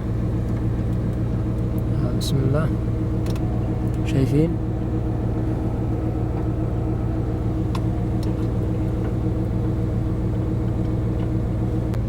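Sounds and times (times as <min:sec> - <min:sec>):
car engine idling: 0:00.0 - 0:12.0
faint engine ticks: 0:00.0 - 0:12.0.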